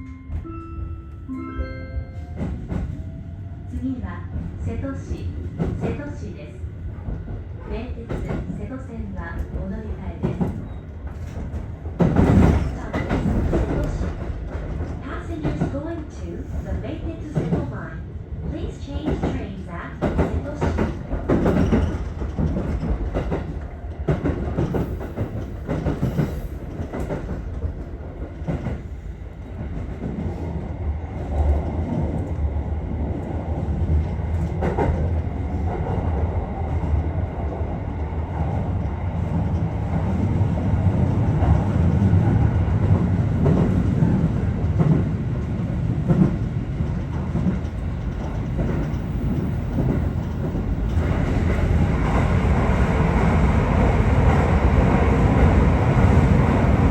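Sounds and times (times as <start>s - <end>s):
clickety-clack over rail joints: 2.2s - 56.9s
train wheels rumbling on rails: 2.2s - 56.9s.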